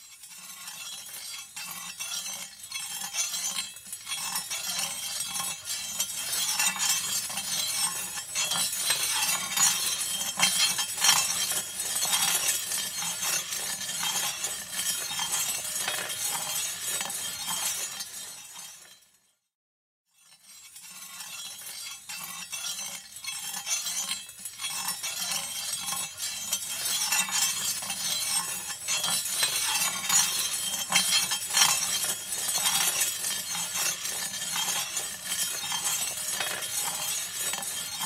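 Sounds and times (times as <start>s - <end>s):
blade grinding on stone: 0.3s - 19.0s, 20.3s - 38.0s.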